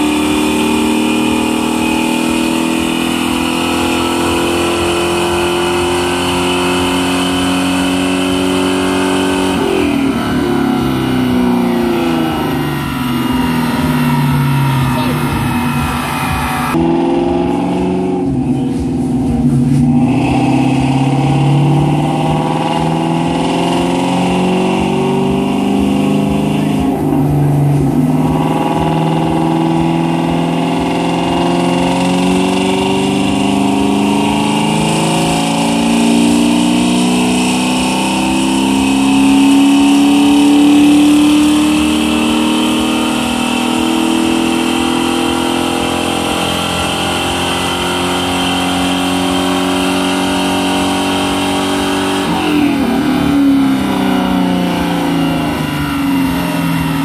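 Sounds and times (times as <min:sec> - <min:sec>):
car engine revving on dynamometer: 0:00.0 - 0:57.0.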